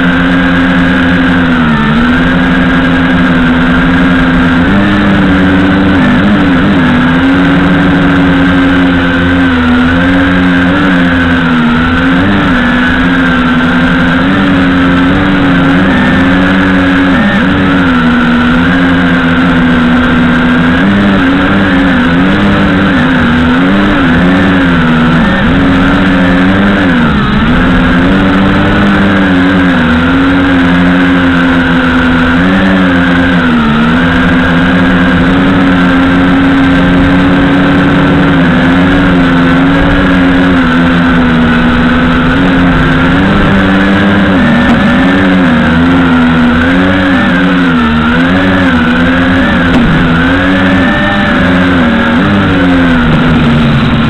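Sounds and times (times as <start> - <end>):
drone motors buzzing: 0.0 - 54.0.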